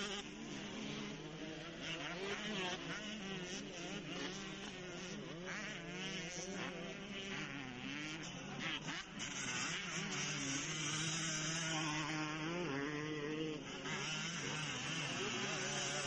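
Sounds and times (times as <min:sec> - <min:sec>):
distant motocross engines buzzing: 0:00.0 - 0:16.0.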